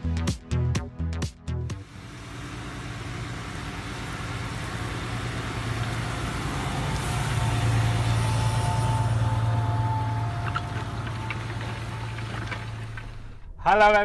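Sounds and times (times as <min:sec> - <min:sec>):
vehicle engine running: 0:01.6 - 0:13.6.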